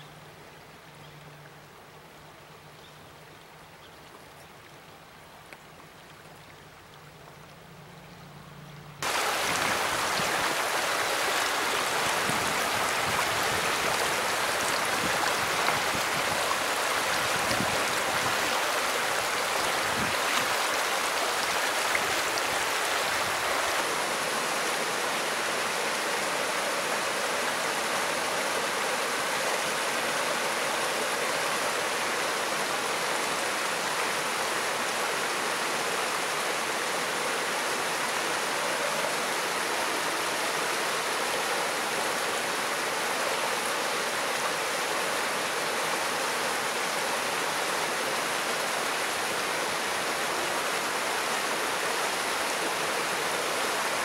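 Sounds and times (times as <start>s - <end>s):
creek water over rocks: 0.0s - 54.0s.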